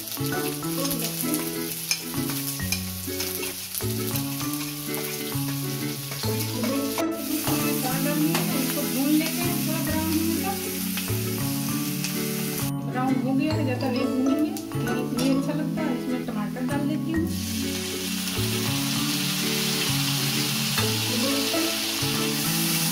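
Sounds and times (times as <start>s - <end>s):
vegetables sizzling in hot oil: 0.0s - 12.7s, 17.2s - 22.9s
background music: 0.0s - 22.9s.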